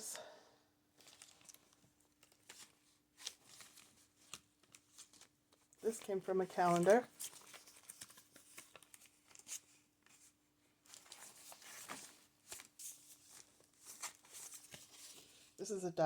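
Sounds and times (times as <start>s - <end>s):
paper pages rustling and crinkling: 0.9s - 15.6s.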